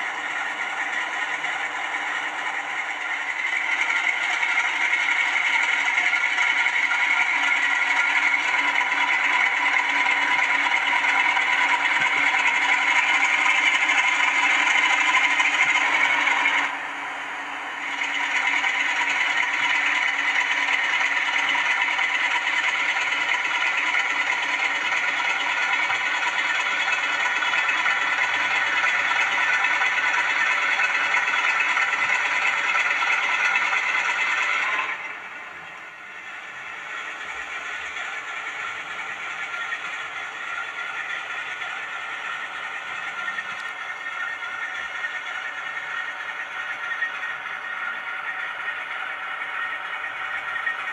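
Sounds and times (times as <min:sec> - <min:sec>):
model diesel engine sound: 0:00.0 - 0:50.9.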